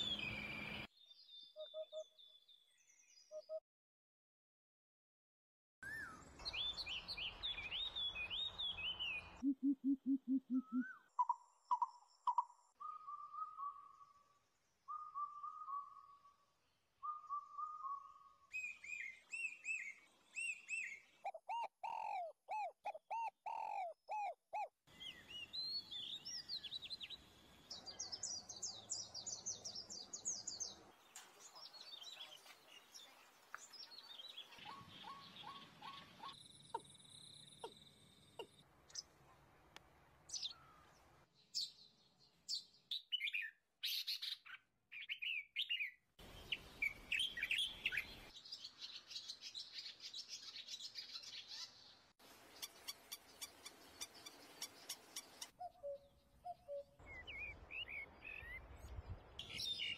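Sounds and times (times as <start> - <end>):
bird calls and songs: 0.0 - 3.6, 5.8 - 39.3, 40.3 - 59.9.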